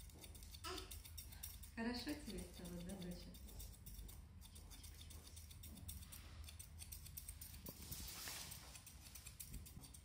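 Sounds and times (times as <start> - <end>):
scissors snipping hair: 0.0 - 10.0.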